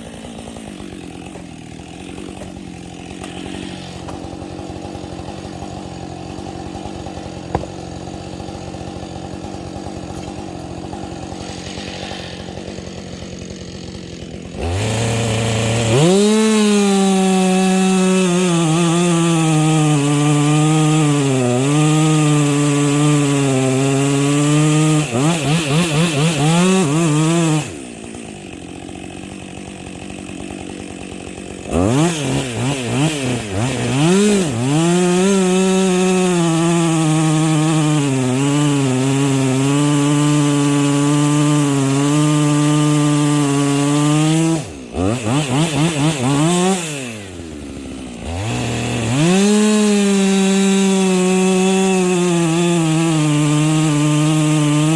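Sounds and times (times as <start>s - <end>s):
chainsaw cutting wood: 0.0s - 54.9s
chainsaw idling: 0.0s - 54.9s.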